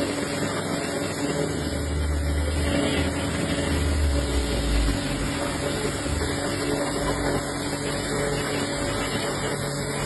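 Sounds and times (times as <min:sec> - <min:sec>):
pressure washer motor hum: 0:00.0 - 0:10.0
water jet spraying metal: 0:00.0 - 0:10.0.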